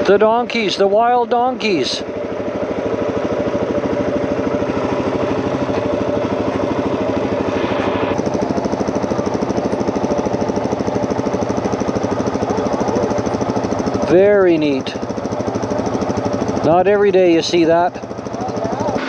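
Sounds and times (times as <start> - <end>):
off-road vehicle engine idling: 0.0 - 19.0.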